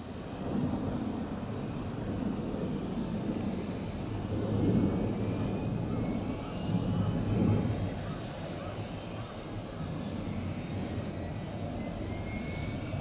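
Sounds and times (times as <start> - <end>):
helicopter turbine whine: 0.0 - 13.0.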